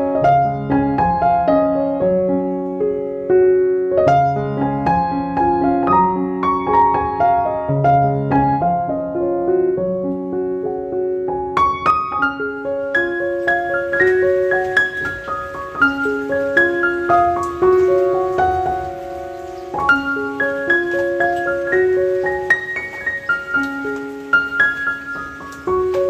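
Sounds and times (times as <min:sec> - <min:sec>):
slow piano melody: 0:00.0 - 0:26.0.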